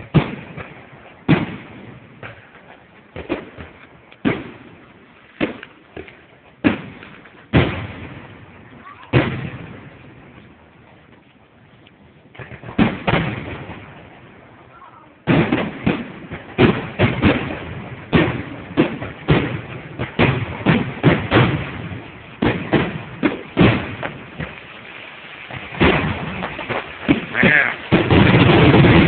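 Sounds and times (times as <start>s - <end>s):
fireworks bursting with sharp bangs: 0.0s - 29.0s.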